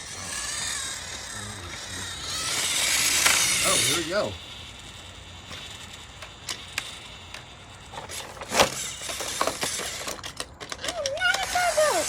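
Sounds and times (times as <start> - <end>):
plastic toy trains clicking: 0.0 - 12.0.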